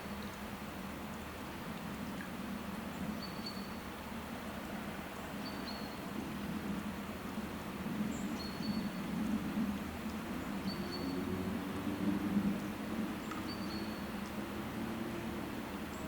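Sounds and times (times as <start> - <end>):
outdoor noise wash: 0.0 - 16.0.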